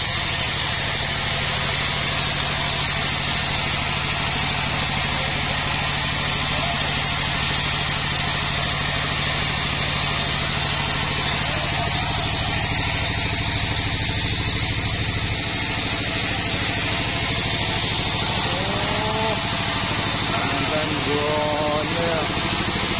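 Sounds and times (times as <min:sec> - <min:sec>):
sawmill engine running: 0:00.0 - 0:22.9.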